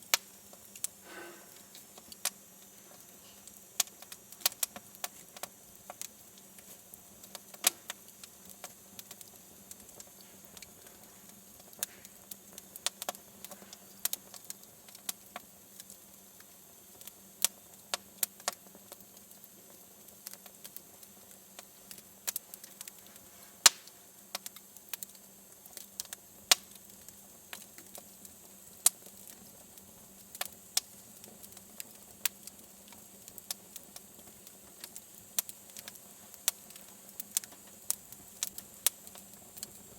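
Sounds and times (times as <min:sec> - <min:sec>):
faint steady hiss: 0:00.0 - 0:39.9
fireplace wood crackling: 0:00.0 - 0:39.9.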